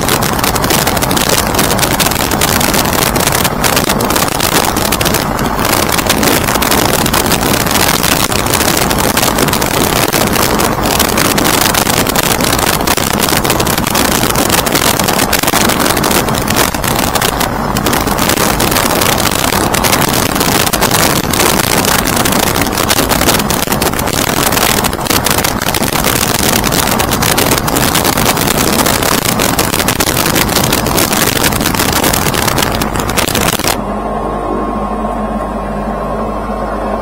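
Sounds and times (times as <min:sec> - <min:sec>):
wind buffeting microphone: 0:00.0 - 0:33.8
aircraft engine drone: 0:00.0 - 0:37.0.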